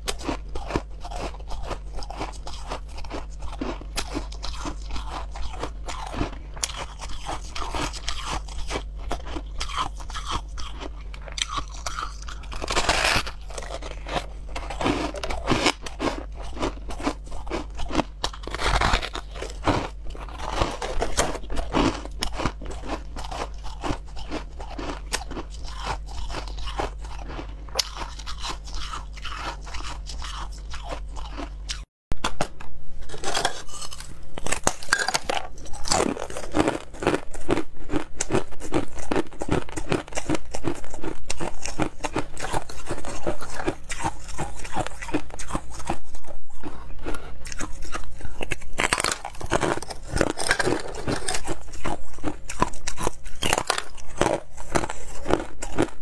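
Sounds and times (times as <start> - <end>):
chewing soft frost chunks: 0.0 - 31.9, 33.3 - 56.0.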